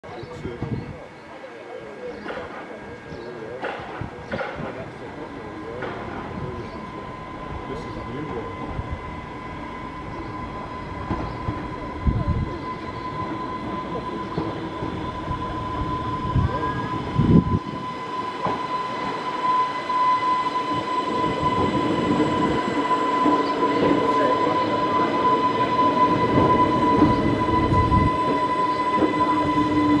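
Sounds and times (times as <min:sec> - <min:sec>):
electric train high whine: 0:00.1 - 0:30.0.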